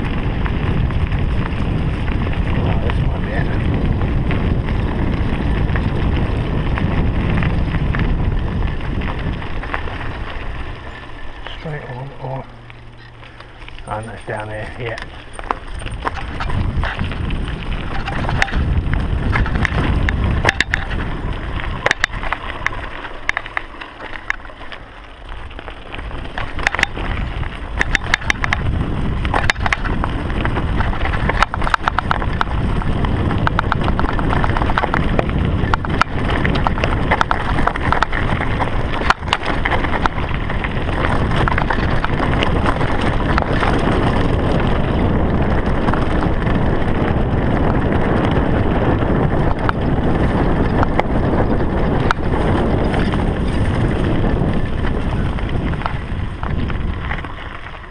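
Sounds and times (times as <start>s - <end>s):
bike rattling over bumps: 0.0s - 57.9s
bike tyres rumbling on dirt: 0.0s - 57.9s
wind on microphone: 0.0s - 57.9s.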